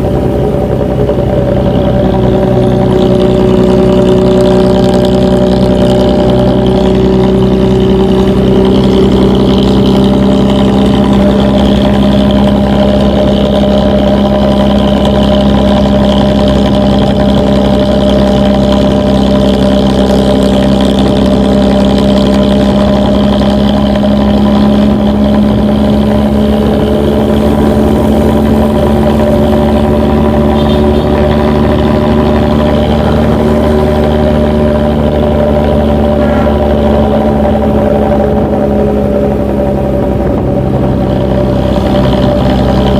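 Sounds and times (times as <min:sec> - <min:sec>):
diesel bus engine growling exhaust: 0:00.0 - 0:42.9.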